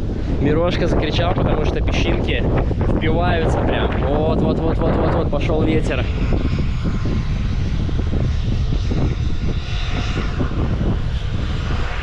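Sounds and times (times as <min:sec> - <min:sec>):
jet blast gusting over microphone: 0:00.0 - 0:12.0
jet engines at takeoff thrust: 0:00.0 - 0:12.0.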